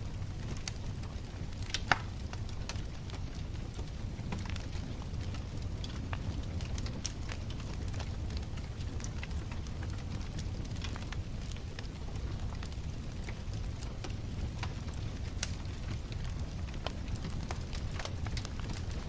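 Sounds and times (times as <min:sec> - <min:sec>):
bonfire crackling: 0:00.0 - 0:19.0
fire low rumble: 0:00.0 - 0:19.0.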